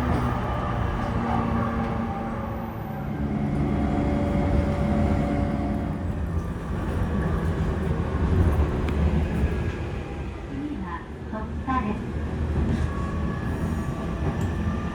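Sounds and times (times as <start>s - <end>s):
train rumble: 0.0s - 14.9s.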